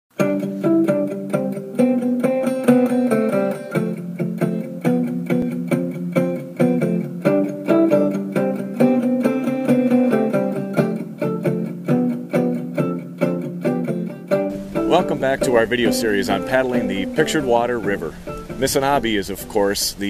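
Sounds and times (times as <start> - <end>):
plucked acoustic guitar: 0.2 - 20.0.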